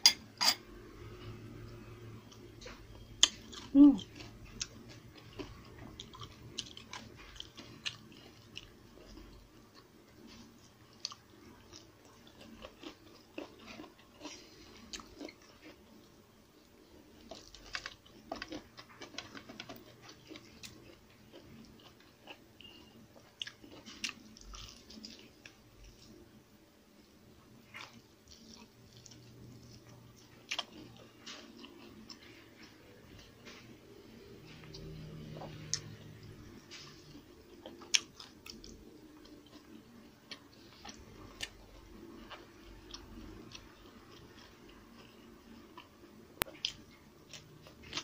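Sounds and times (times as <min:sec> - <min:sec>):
chewing: 0:02.3 - 0:26.2, 0:27.6 - 0:48.0.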